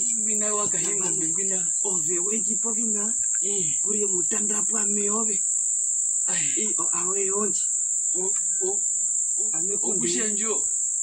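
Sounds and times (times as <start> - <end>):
man talking: 0.0 - 5.4, 6.3 - 8.8, 9.4 - 10.7
high-pitched insect shrill: 0.0 - 11.0.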